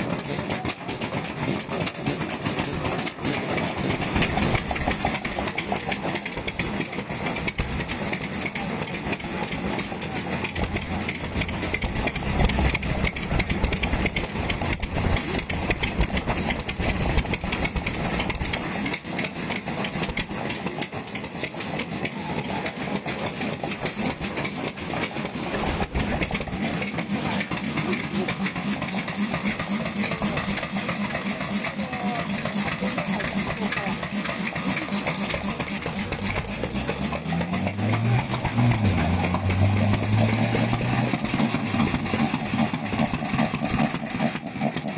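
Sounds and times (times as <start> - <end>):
stationary oil engines running: 0.0 - 44.9.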